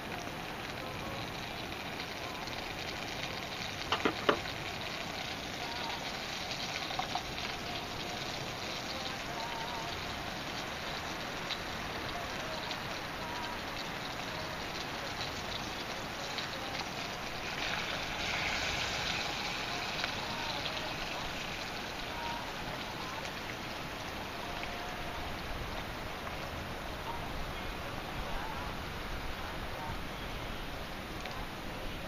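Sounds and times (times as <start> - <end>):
campfire hissing and crackling: 0.0 - 32.0.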